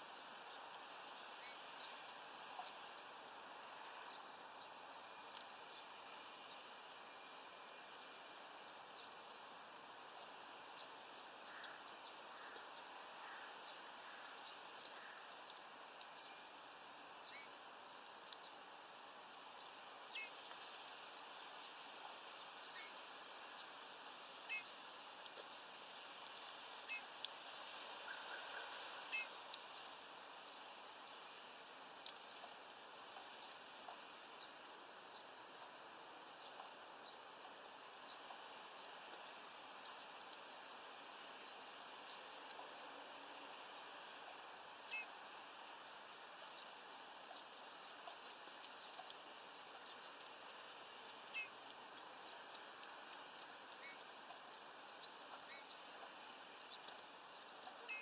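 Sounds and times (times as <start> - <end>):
background hiss: 0.0 - 58.0
small birds chirping: 0.0 - 58.0.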